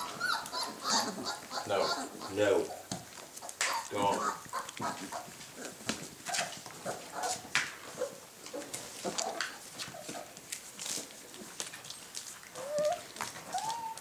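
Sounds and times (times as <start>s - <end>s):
puppies squeaking and whimpering: 0.0s - 10.9s, 11.9s - 14.0s
puppies scuffling: 0.0s - 14.0s.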